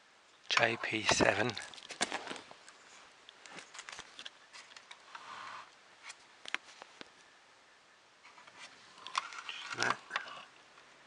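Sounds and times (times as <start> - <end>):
soft rustle: 0.6 - 7.3, 8.2 - 11.0.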